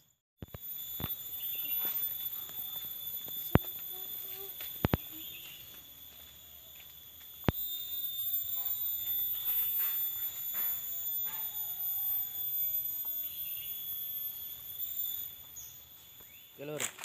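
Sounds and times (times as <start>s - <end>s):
high-pitched insect whine: 0.0s - 17.0s.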